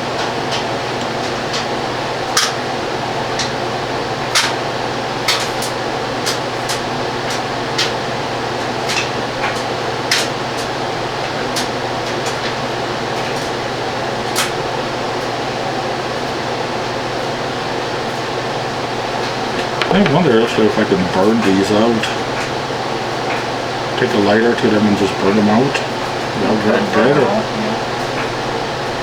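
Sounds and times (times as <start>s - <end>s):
fan whirring: 0.0s - 29.0s.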